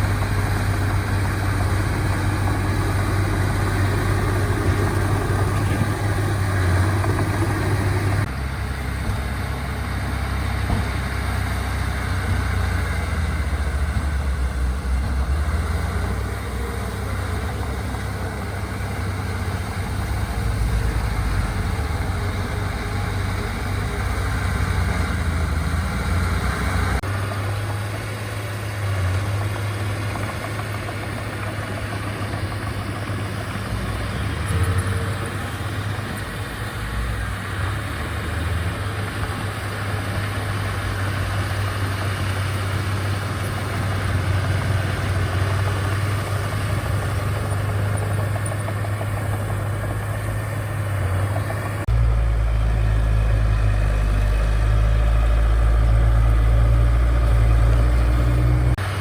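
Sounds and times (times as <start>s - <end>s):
diesel engines of machinery running: 0.0s - 59.0s.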